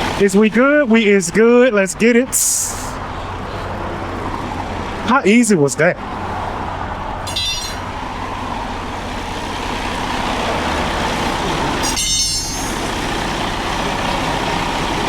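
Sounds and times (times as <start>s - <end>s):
heavy traffic passing: 0.0s - 15.0s.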